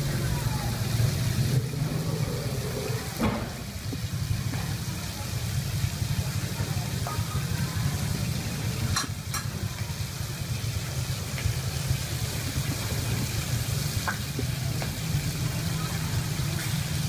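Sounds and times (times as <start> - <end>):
hiss: 0.0 - 17.0.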